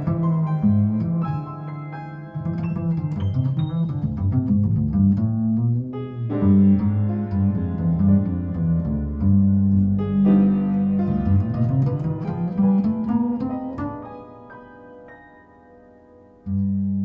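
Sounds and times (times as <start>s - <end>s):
plucked double bass: 0.0s - 14.8s, 16.5s - 17.0s
jazz piano chords: 0.0s - 17.0s.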